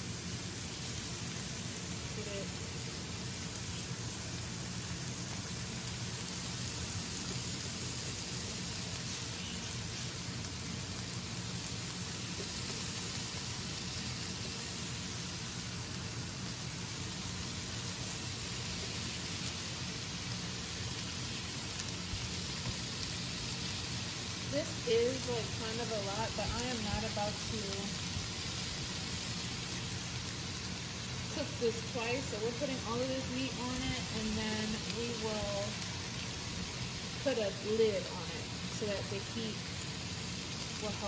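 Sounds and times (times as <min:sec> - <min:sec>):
meat sizzling in a pan: 0:00.0 - 0:41.0.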